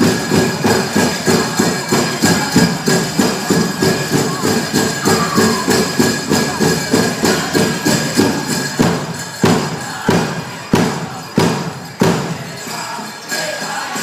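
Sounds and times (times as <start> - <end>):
big drum beating: 0.0 - 12.6
bells jingling: 0.0 - 14.0
people singing: 0.0 - 14.0.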